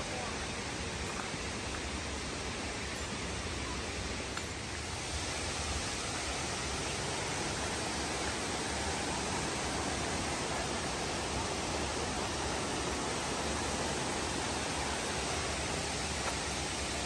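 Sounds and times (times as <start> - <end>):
creek rushing over boulders: 0.0 - 17.0.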